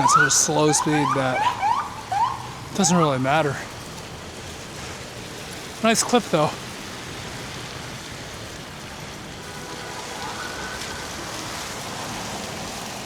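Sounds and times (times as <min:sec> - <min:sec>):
bicycle tyres rolling through slush: 0:00.0 - 0:13.0.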